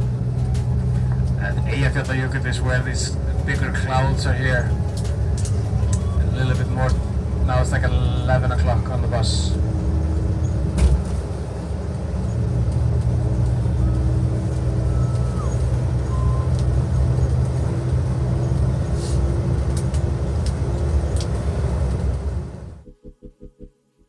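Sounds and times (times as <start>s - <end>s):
bus engine and road rumble: 0.0s - 22.8s
constant hum: 0.0s - 22.8s.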